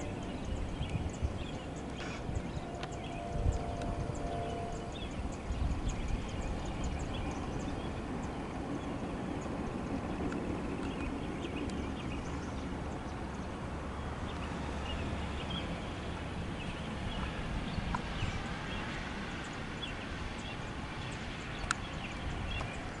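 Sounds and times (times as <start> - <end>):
freight train rumbling: 0.0 - 23.0
small birds chirping: 0.0 - 23.0.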